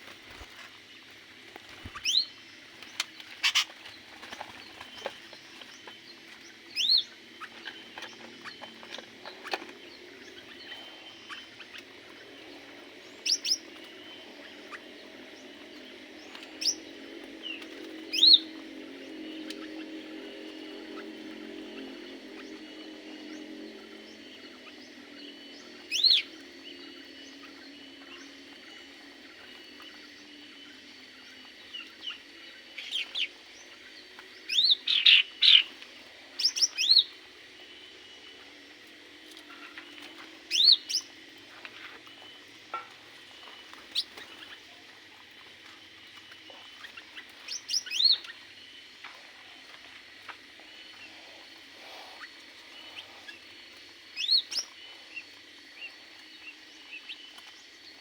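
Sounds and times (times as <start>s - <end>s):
birds chirping: 0.0s - 58.0s
low steady background noise: 0.0s - 58.0s.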